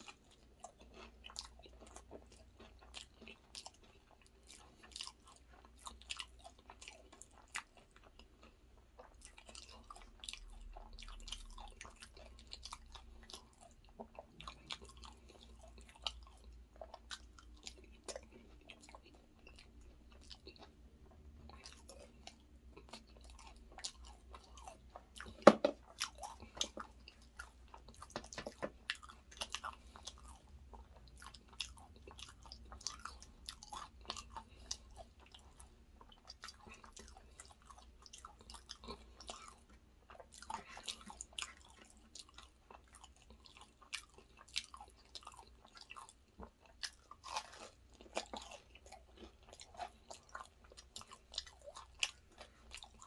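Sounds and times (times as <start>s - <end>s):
chewing and crunching: 0.0s - 53.0s.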